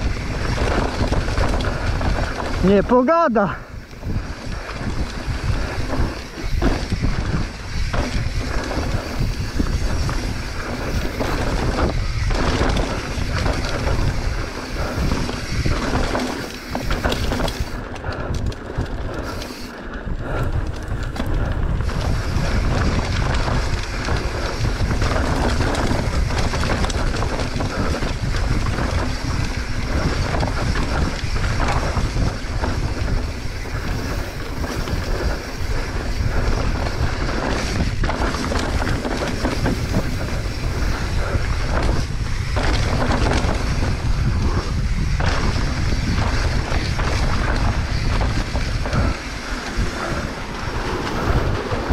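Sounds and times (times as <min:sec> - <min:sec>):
bike knocking and rattling: 0:00.0 - 0:51.9
tyre noise on dirt: 0:00.0 - 0:51.9
wind buffeting microphone: 0:00.0 - 0:51.9.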